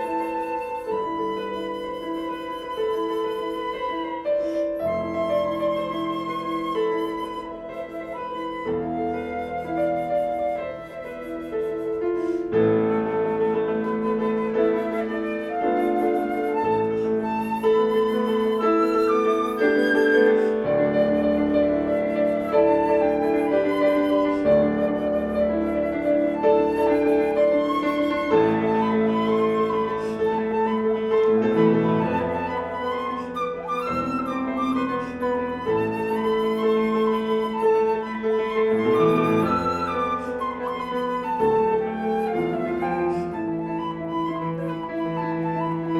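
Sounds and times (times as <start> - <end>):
flute playing: 0.0 - 45.9
piano chords: 0.0 - 45.9.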